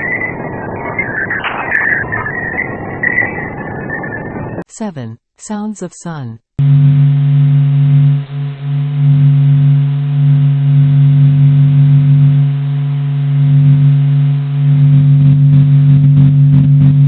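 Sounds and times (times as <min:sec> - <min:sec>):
low electronic drone: 0:00.0 - 0:04.6, 0:06.6 - 0:17.0.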